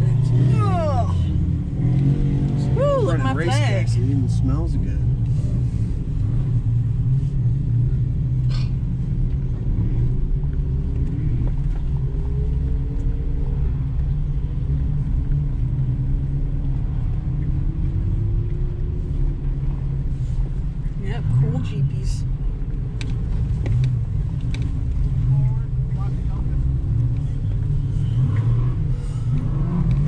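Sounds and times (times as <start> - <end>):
engine and tyres rumbling: 0.0 - 30.0.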